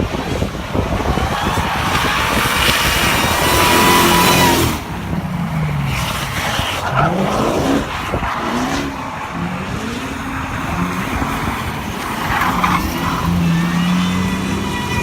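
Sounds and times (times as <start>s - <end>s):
car engine revving: 0.4s - 15.0s
tyres squealing: 1.4s - 8.4s, 9.8s - 15.0s.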